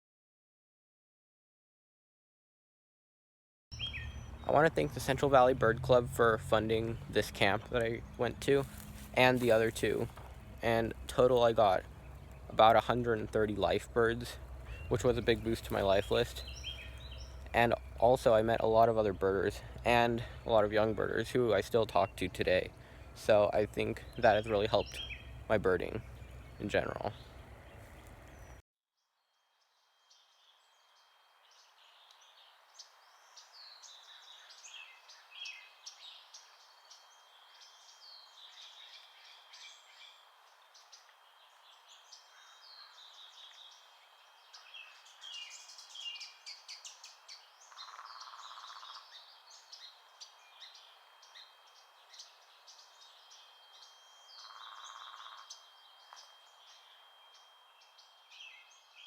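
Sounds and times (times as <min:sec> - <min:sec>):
songbirds chirping and trilling: 0:03.7 - 0:28.6, 0:29.2 - 0:59.0.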